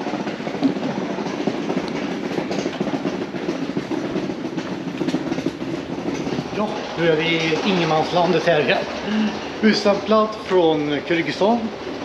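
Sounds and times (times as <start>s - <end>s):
wheels rolling over brick paving: 0.3s - 11.6s.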